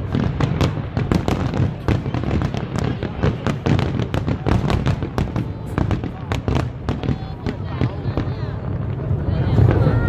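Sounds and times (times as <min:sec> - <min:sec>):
fireworks bursting with sharp bangs: 0:00.0 - 0:10.0
low fireworks rumble: 0:00.0 - 0:10.0.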